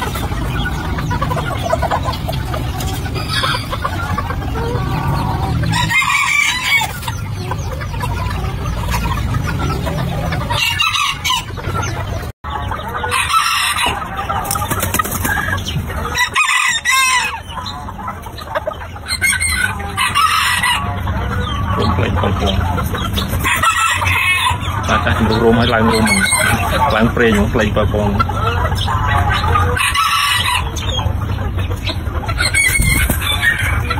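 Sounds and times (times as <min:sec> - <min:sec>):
roosters crowing: 0:00.0 - 0:27.4, 0:28.0 - 0:33.9
hens clucking: 0:00.0 - 0:33.9.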